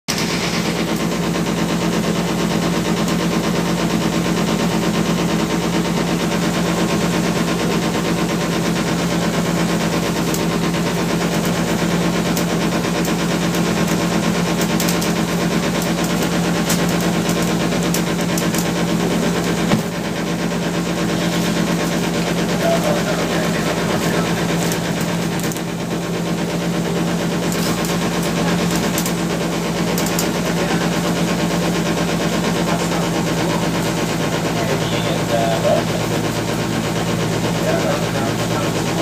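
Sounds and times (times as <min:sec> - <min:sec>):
boat engine humming: 0:00.1 - 0:39.0.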